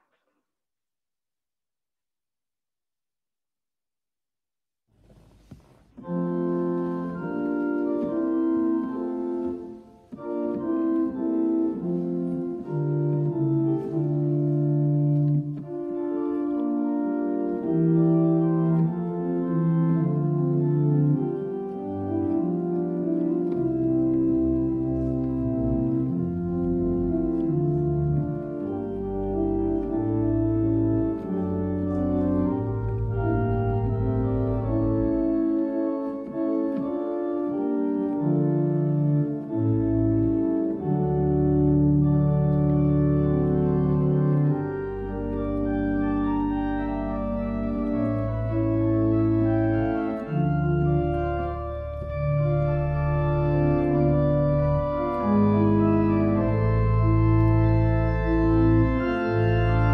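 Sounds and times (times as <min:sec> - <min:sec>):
church organ playing chords: 0:06.0 - 0:59.9.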